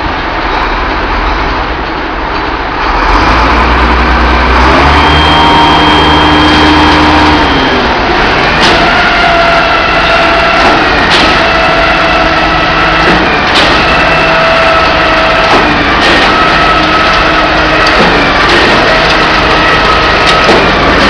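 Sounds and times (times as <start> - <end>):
concrete pump engine running: 0.0 - 21.0.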